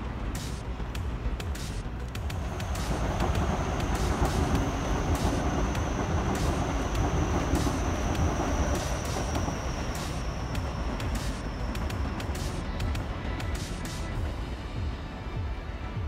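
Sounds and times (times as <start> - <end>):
train wheels rumbling on rails: 1.4 - 14.3
thin high whine: 1.6 - 15.3.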